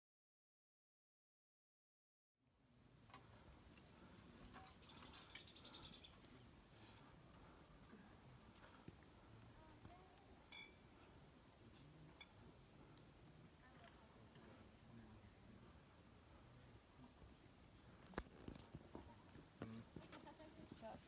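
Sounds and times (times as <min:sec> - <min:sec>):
faint cricket chirping: 0:02.6 - 0:21.0.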